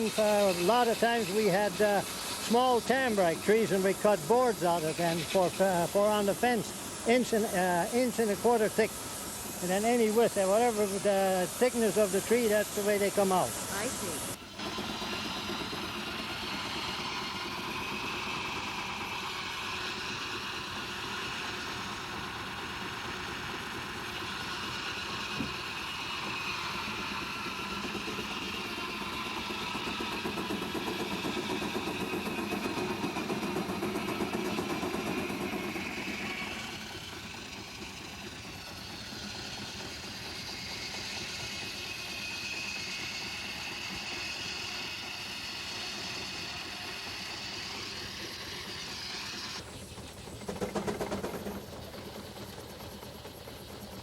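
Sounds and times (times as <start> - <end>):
steam sawmill running: 0.0 - 54.0.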